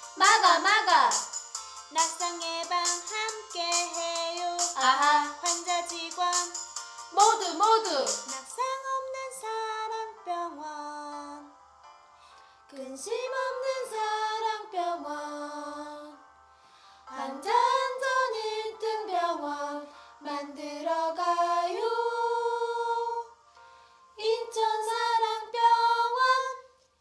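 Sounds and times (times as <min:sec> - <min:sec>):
voices singing with music: 0:00.0 - 0:11.5, 0:12.7 - 0:16.3, 0:17.1 - 0:23.5, 0:24.2 - 0:26.8.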